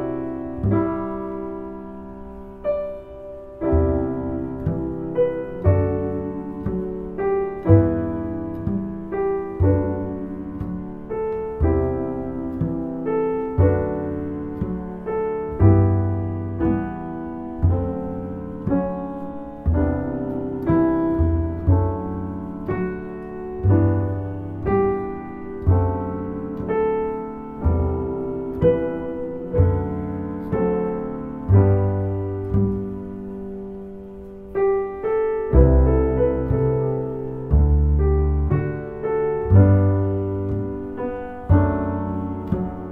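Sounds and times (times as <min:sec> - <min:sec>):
gentle piano melody: 0:00.0 - 0:42.9.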